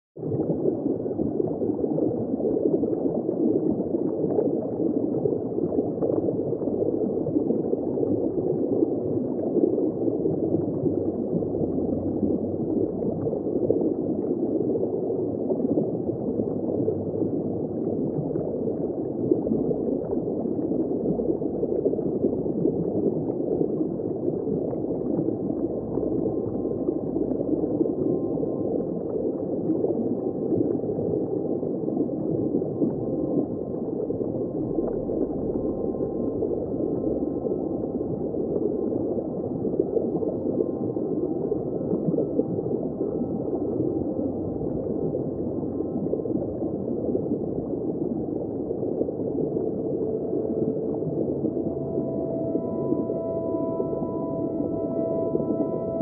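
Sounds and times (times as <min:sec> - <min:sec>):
muffled underwater rush: 0:00.2 - 0:56.0.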